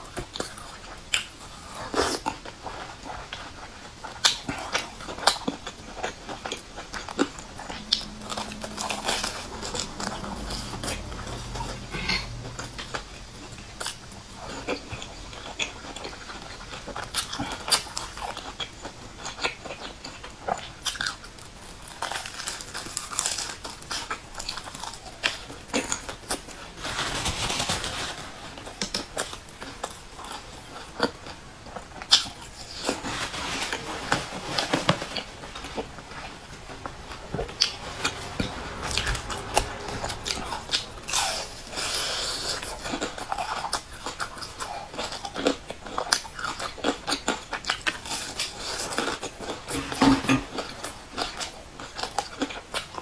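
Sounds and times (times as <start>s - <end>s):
chewing crunchy fried buns: 0.0s - 53.0s.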